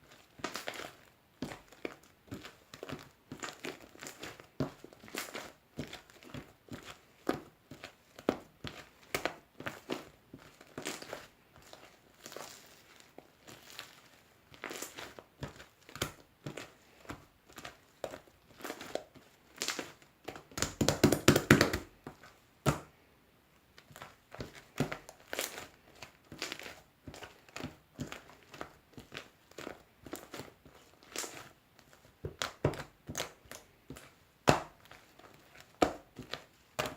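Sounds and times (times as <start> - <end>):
slime squishing: 0.0 - 23.0, 23.7 - 36.9.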